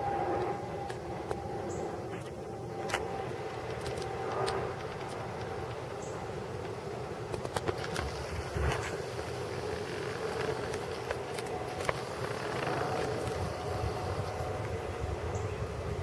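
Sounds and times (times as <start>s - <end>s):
jet passing overhead: 0.0s - 16.0s.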